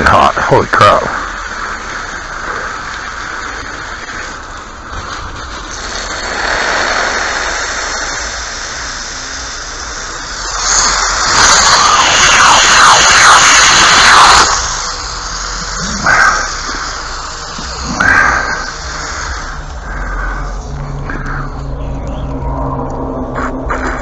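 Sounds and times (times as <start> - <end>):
water spraying with high hiss: 0.0 - 21.7.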